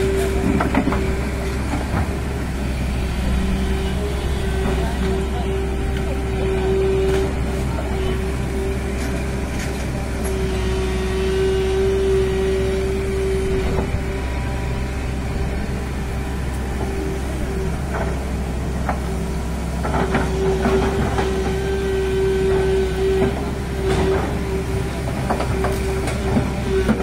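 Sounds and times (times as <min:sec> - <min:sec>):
excavator engine whine: 0:00.0 - 0:27.0.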